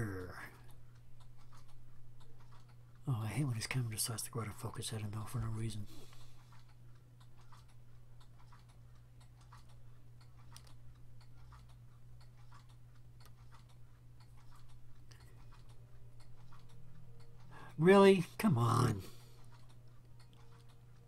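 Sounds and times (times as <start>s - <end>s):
faint regular ticking: 0.0s - 21.0s
steady low hum: 0.0s - 21.0s.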